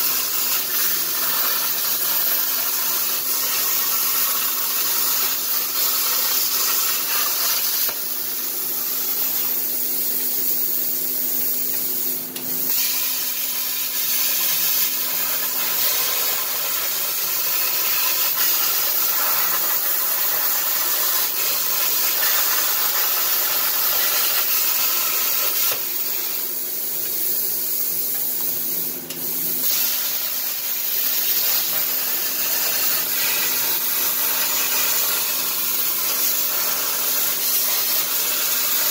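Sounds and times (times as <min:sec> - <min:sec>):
plasma cutter hissing: 0:00.0 - 0:38.9.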